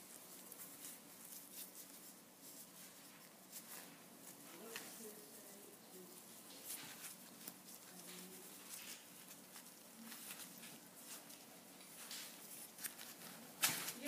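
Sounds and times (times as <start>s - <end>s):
faint rustling: 0.0s - 14.0s
quiet room hum: 0.0s - 14.0s.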